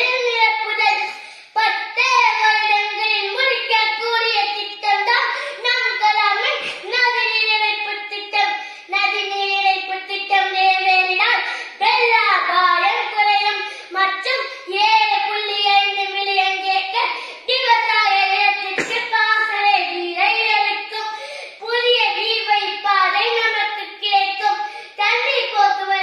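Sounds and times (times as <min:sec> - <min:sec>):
boy giving a loud speech: 0:00.0 - 0:26.0.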